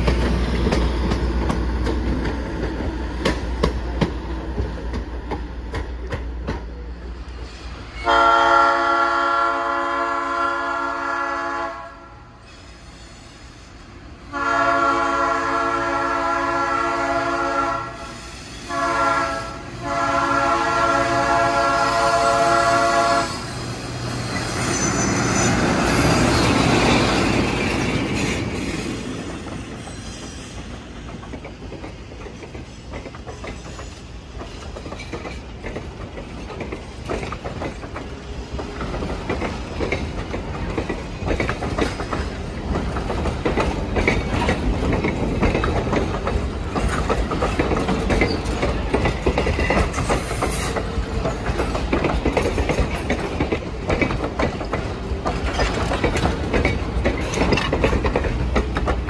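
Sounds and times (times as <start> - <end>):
train wheels clacking over rail joints: 0.0 - 9.1, 15.9 - 59.0.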